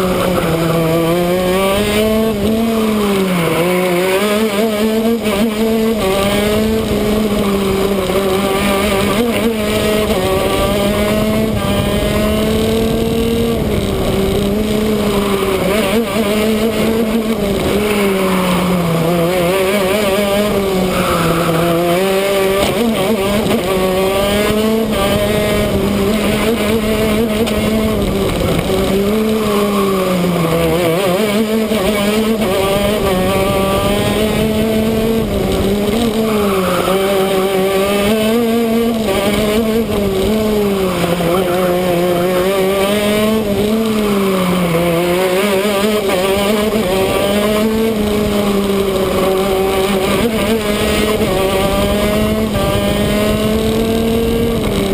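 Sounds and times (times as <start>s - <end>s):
kart two-stroke engine revving: 0.0s - 54.9s.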